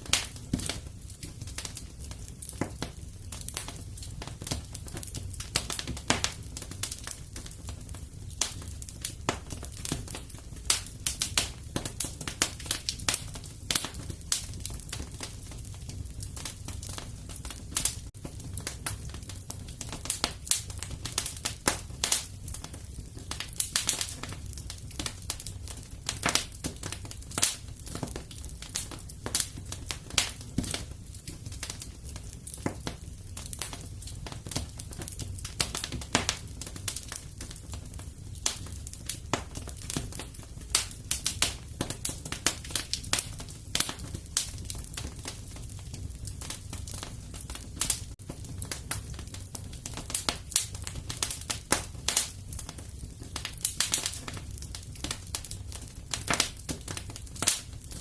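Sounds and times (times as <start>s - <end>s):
fire low rumble: 0.0s - 58.0s
fire pops and snaps: 0.0s - 58.0s.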